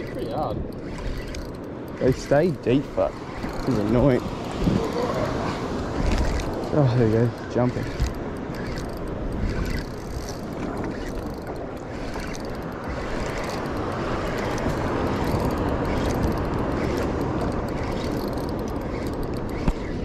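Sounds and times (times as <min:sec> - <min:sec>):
water lapping around a boat: 0:00.0 - 0:20.0
wind rumbling on microphone: 0:00.0 - 0:20.0.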